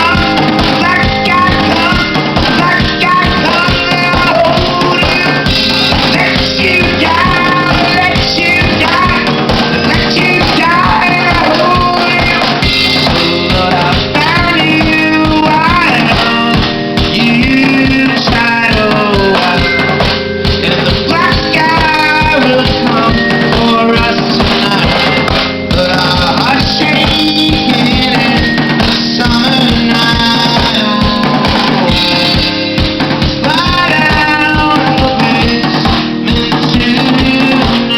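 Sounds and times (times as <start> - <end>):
drum kit steady beat: 0.0 - 37.9
guitar: 0.0 - 37.9
person singing lead vocal: 0.0 - 37.9.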